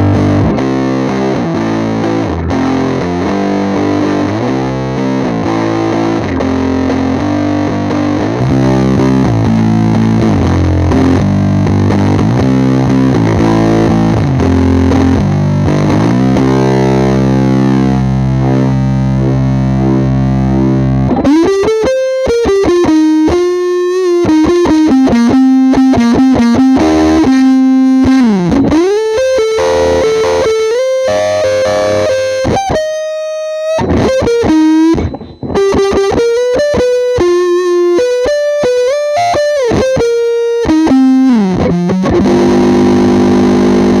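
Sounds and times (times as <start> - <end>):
fuzz electric guitar: 0.0 - 44.0.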